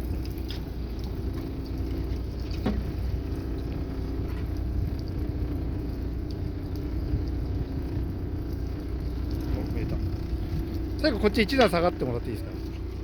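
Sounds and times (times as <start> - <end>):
boat engine idling: 0.0 - 13.0
water noise: 0.0 - 13.0
wind: 0.0 - 13.0.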